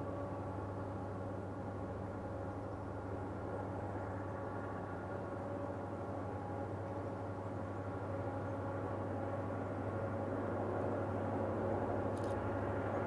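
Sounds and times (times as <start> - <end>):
distant locomotive engine drone: 0.0 - 13.0.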